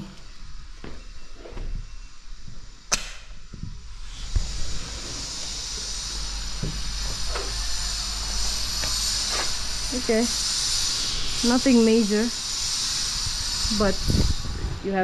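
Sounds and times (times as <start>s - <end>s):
outdoor air hiss: 0.0s - 15.0s
low rumble: 1.8s - 15.0s.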